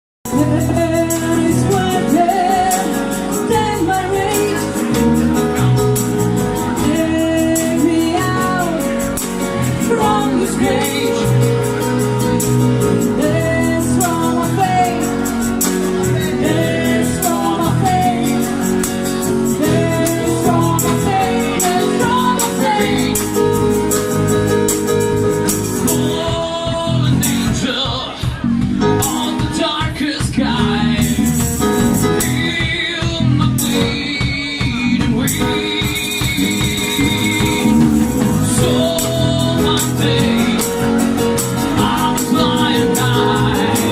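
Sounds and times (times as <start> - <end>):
band playing acoustic instruments: 0.3 - 43.9
person singing: 0.3 - 43.9.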